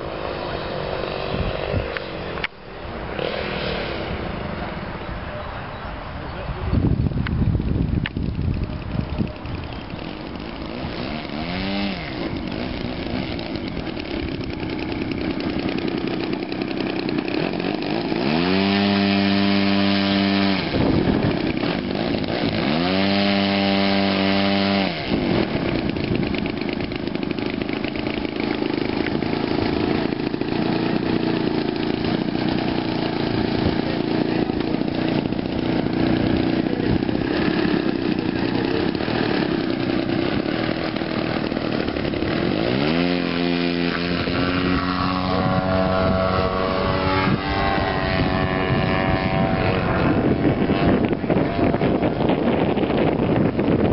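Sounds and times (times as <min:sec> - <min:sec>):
model plane gasoline engine: 0:00.0 - 0:05.1, 0:06.5 - 0:53.9.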